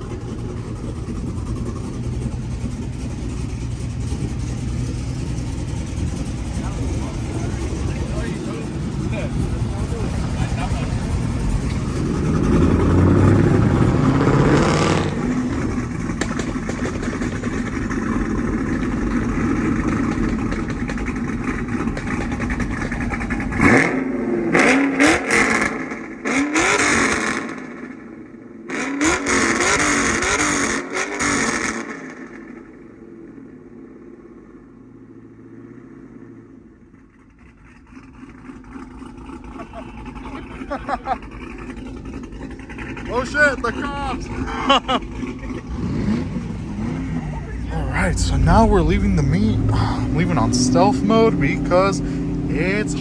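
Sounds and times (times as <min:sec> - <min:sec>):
vehicle engines revving: 0:00.0 - 0:33.3, 0:35.2 - 0:53.0.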